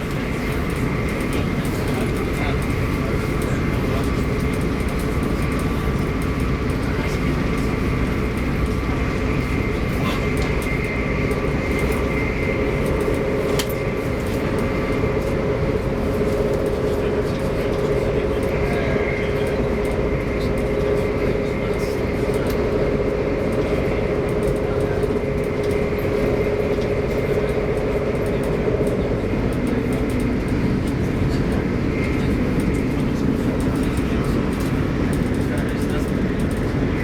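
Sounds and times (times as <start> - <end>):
electric train whine: 0.0 - 37.0
train wheels rumbling on track: 0.0 - 37.0.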